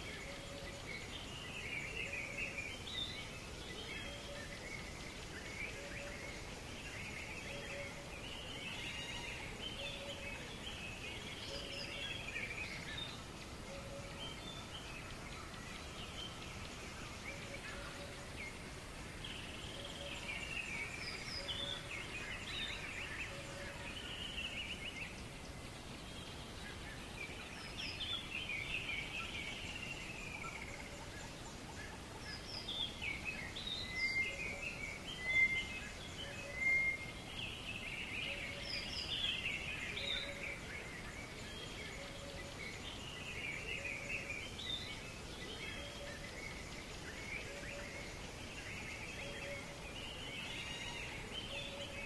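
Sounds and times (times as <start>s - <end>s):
outdoor background hiss: 0.0s - 52.0s
songbirds singing: 0.0s - 52.0s.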